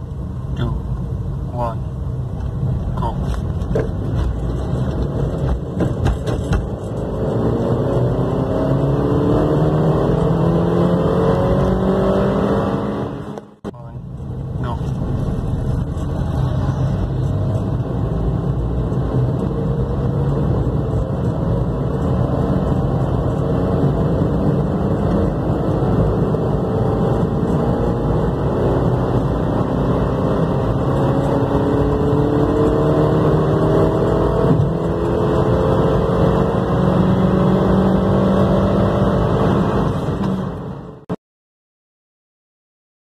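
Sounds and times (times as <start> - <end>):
road and tyre rumble: 0.0 - 41.2
car engine accelerating: 1.6 - 41.1.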